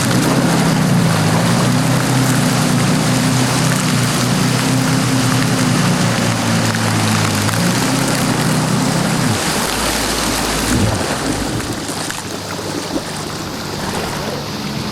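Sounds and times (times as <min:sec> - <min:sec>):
jet ski engine running: 0:00.0 - 0:14.9
water rushing: 0:00.0 - 0:14.9.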